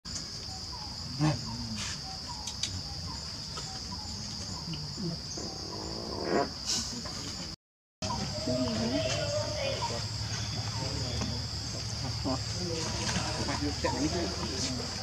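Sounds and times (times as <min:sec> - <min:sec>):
insects droning: 0:00.1 - 0:15.0.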